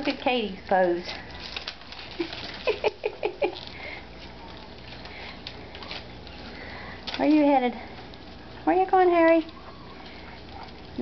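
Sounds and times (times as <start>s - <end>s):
puppies crunching kibble: 0.0s - 11.0s.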